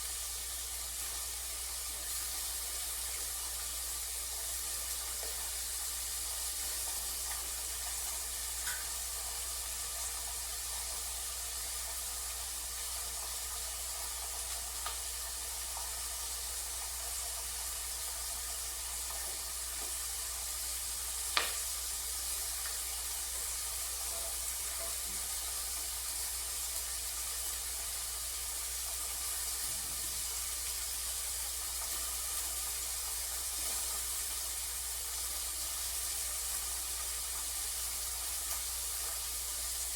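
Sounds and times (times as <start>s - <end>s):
vegetables sizzling in a pot: 0.0s - 39.9s.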